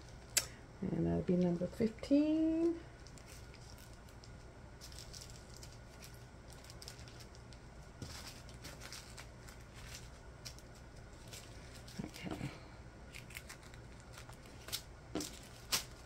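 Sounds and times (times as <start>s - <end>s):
plastic bags crinkling: 2.5s - 12.5s, 13.1s - 16.0s.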